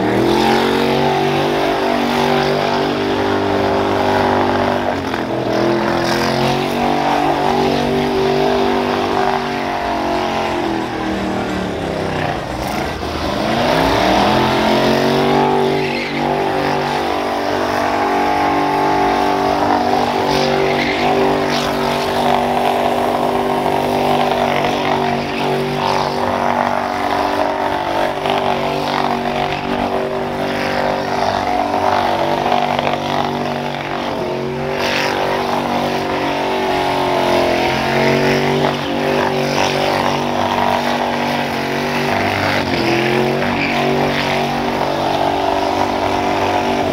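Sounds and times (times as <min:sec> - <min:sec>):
vehicle engine running loudly: 0:00.0 - 0:46.9.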